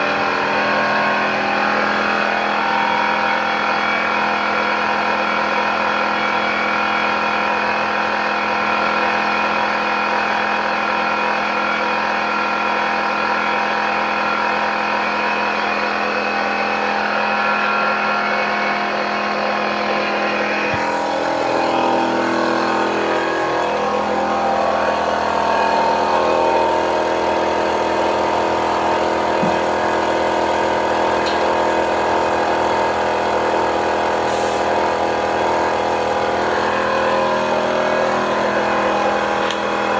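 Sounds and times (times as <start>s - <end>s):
air compressor motor humming: 0.0s - 39.9s.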